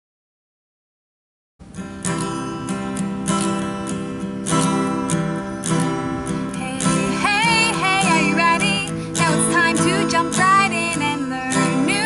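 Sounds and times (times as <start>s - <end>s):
acoustic guitar strumming: 1.6s - 12.0s.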